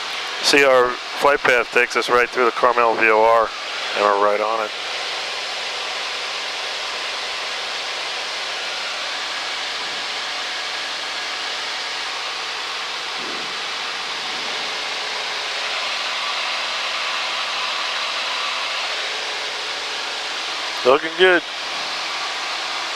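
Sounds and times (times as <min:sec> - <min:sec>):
airplane engine and propeller drone: 0:00.0 - 0:22.9.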